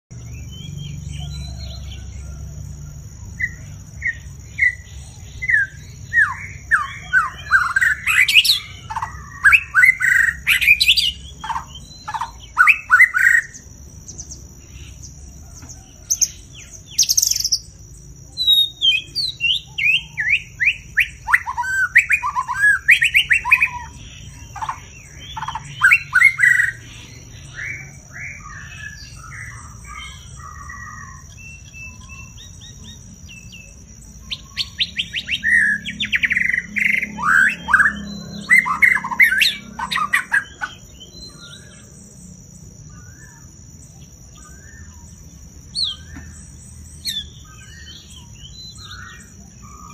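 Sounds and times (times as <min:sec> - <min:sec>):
bird singing: 0:00.0 - 0:49.9.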